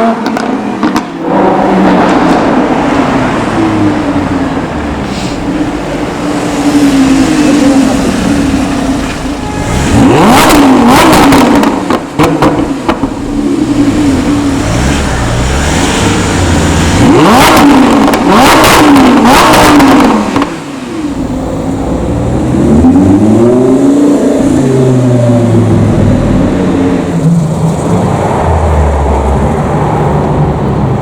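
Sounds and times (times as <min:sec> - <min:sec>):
car engine accelerating hard: 0:00.0 - 0:31.0.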